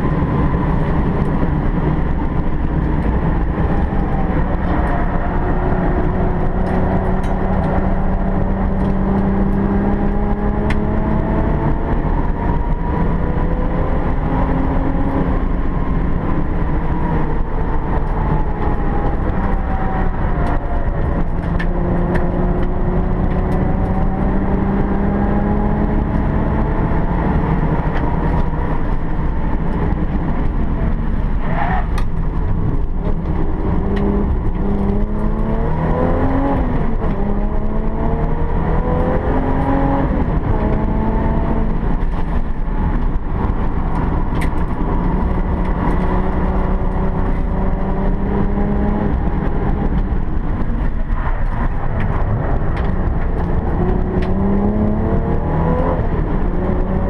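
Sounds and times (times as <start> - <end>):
race car engine revving: 0.0 - 57.0
road and wind noise: 0.0 - 57.0.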